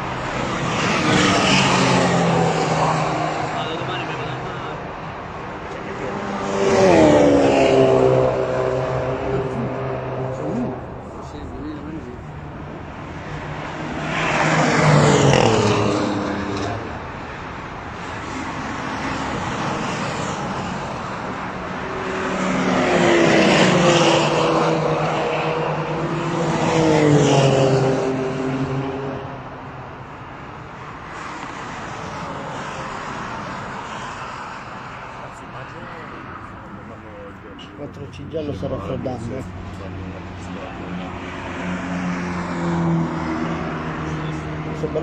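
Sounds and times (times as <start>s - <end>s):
distant engine on track: 0.0s - 45.0s
race cars passing at speed: 0.0s - 45.0s.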